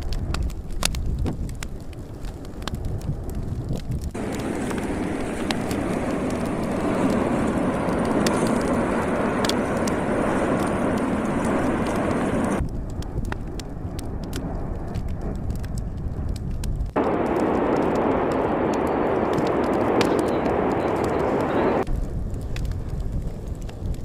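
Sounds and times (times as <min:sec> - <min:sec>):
sharp crackles: 0:00.0 - 0:24.0
volcanic eruption roaring: 0:00.0 - 0:24.0.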